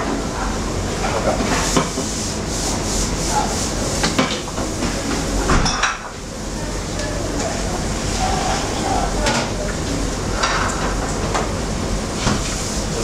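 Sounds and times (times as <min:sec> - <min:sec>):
kitchen hum: 0:00.0 - 0:13.0.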